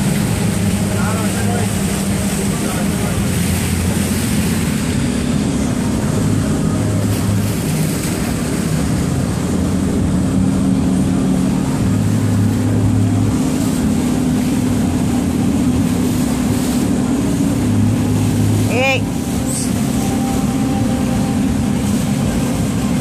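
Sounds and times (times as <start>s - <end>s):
outboard engines droning: 0.0s - 23.0s
wind and water rushing: 0.0s - 23.0s.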